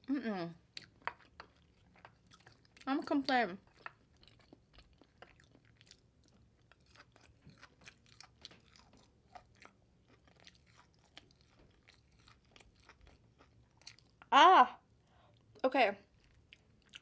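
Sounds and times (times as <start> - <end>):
wet chewing mouth clicks: 0.7 - 14.3, 16.1 - 17.0.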